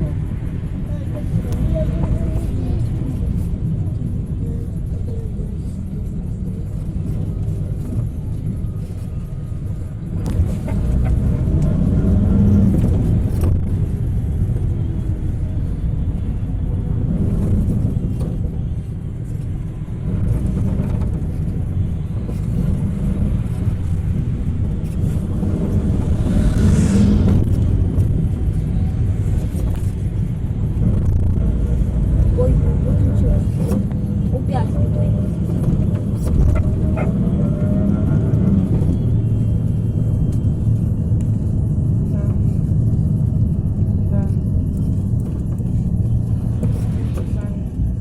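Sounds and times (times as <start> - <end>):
bus engine: 0.0 - 48.0
road rumble: 0.0 - 48.0.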